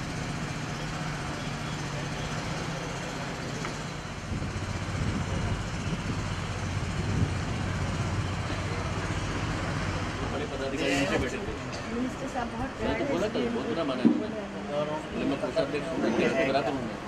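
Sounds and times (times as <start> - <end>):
rumbling outdoor noise: 0.0 - 16.2.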